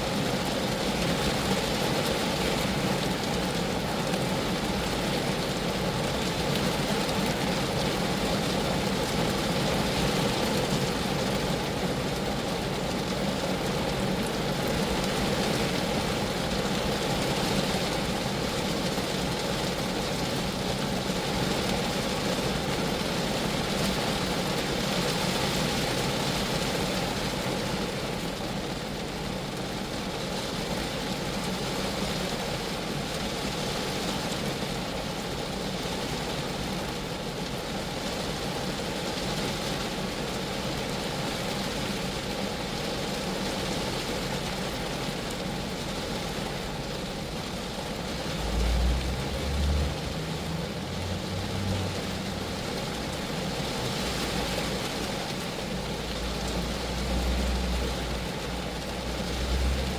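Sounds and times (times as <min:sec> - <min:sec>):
rain falling on a car: 0:00.0 - 0:59.9.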